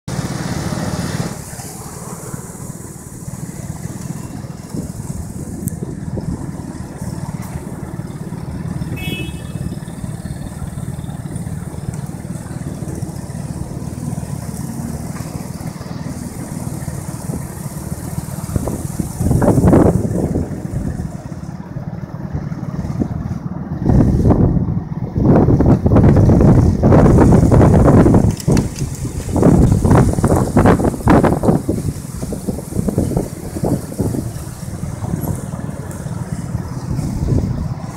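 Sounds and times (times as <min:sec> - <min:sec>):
traffic rumble: 0:00.1 - 0:37.9
vehicle passing rush: 0:00.1 - 0:37.9.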